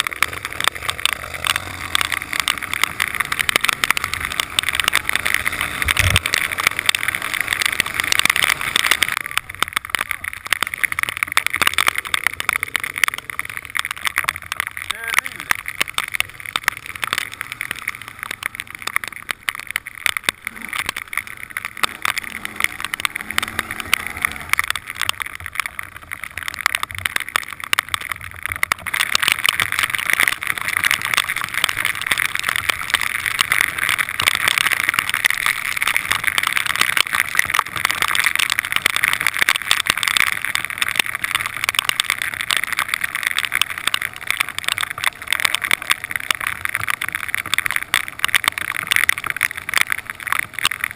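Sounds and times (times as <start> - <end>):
quad bike engine: 0.0 - 50.9.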